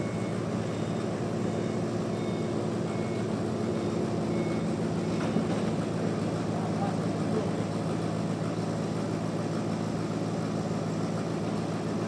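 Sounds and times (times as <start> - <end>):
sawmill machinery hum: 0.0 - 12.0.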